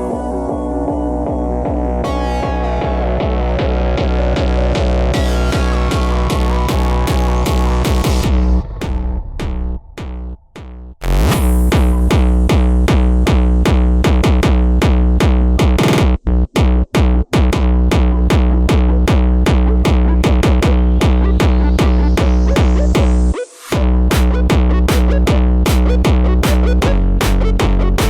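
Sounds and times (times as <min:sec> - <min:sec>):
techno music: 0:00.0 - 0:28.0.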